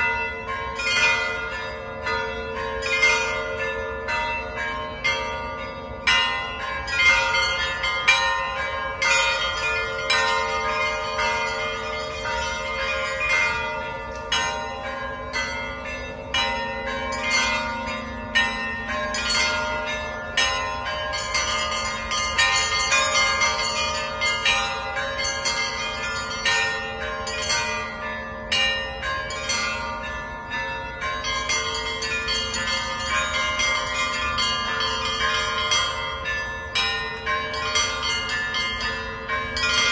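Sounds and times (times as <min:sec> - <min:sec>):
large bells ringing: 0:00.0 - 0:39.9.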